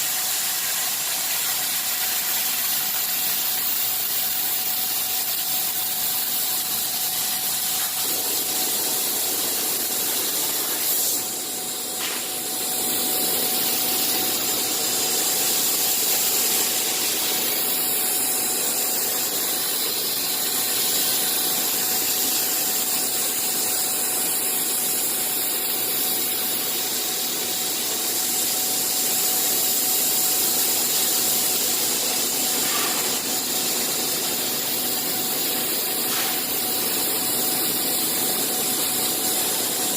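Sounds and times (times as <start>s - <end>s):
cnc machine hissing: 0.0s - 39.9s.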